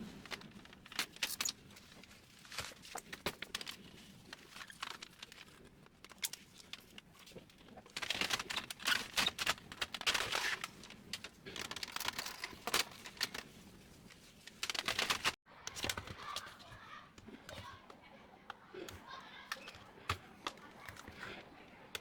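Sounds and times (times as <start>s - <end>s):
plastic scraping and rubbing: 0.0s - 22.0s.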